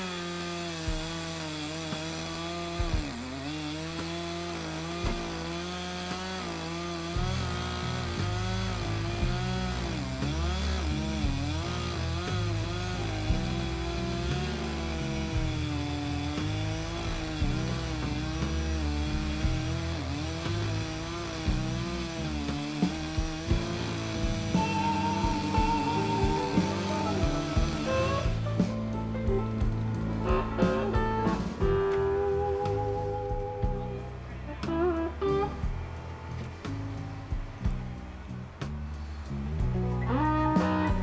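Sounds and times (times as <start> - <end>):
chainsaw cutting logs: 0.0 - 41.0
skid steer engine rumbling: 0.0 - 41.0.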